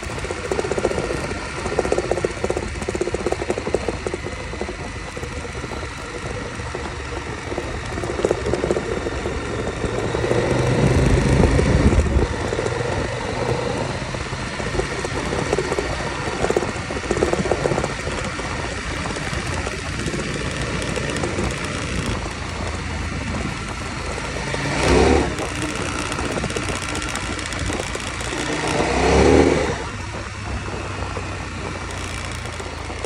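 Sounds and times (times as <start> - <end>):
motorcycle engine running: 0.0 - 33.0
road noise on gravel: 0.0 - 33.0
wind noise: 0.0 - 33.0.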